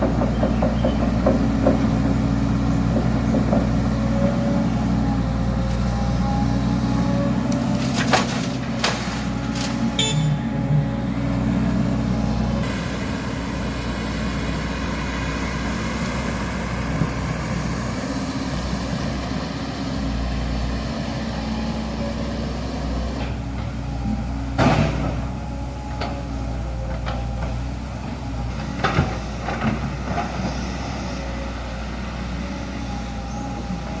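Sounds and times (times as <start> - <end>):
excavator diesel engine: 0.0 - 34.0.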